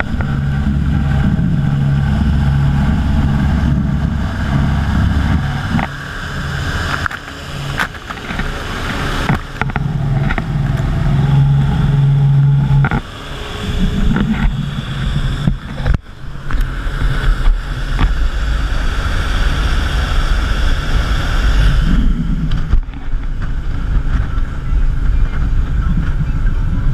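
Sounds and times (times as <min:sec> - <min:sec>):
rushing water and spray: 0:00.0 - 0:25.2
boat engine drone: 0:00.0 - 0:26.9
wind buffeting microphone: 0:00.0 - 0:26.9.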